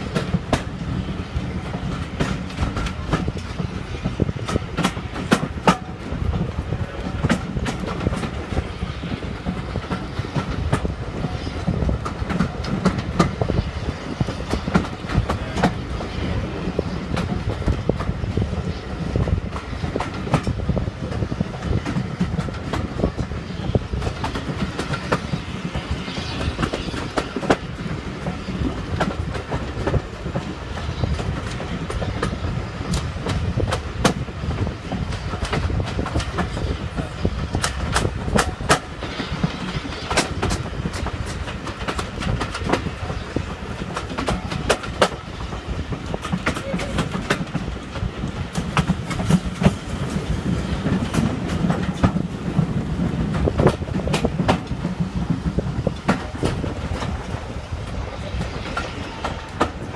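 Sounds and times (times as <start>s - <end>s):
train carriage rumble: 0.0s - 59.9s
wheels clicking on rails: 0.0s - 59.9s.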